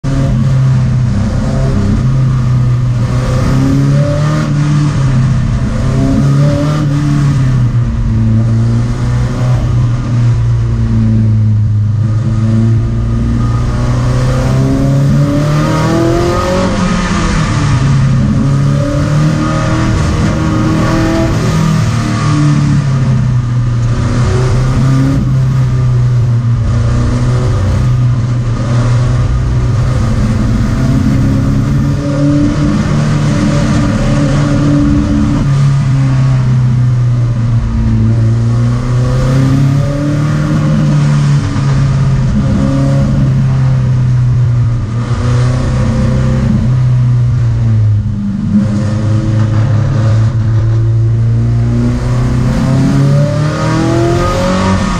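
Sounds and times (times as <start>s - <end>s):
race car engine from cabin: 0.0s - 54.9s.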